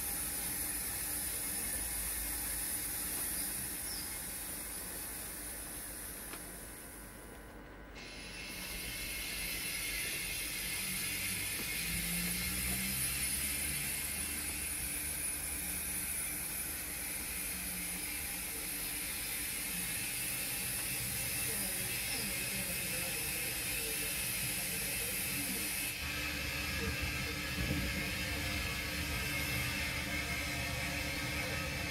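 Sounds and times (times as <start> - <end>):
high hiss: 0.0 - 6.9, 8.0 - 31.9
model train motor whirring: 0.0 - 7.4, 8.0 - 31.9.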